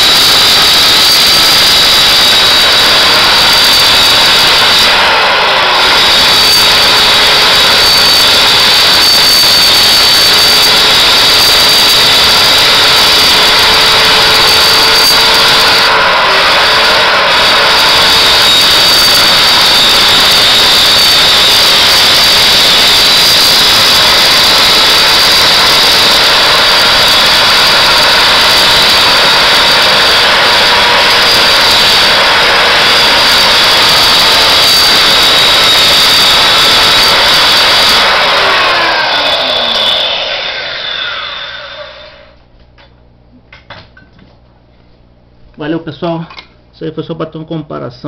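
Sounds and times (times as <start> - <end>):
electric power saw cutting: 0.0 - 42.4.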